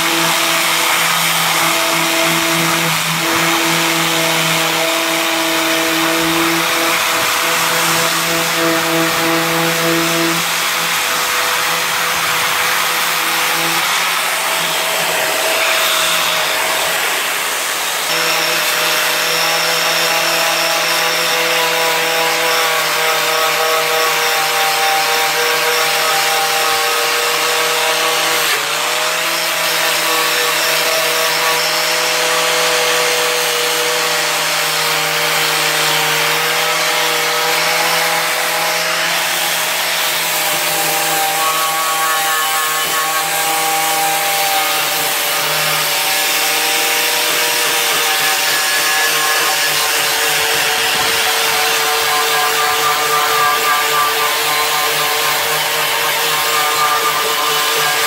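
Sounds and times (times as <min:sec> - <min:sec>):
angle grinder grinding metal: 0:00.0 - 0:58.0.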